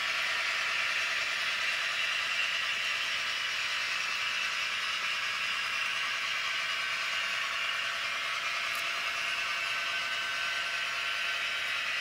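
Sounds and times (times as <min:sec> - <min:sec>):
thin diesel engine sound from speaker: 0:00.0 - 0:12.0.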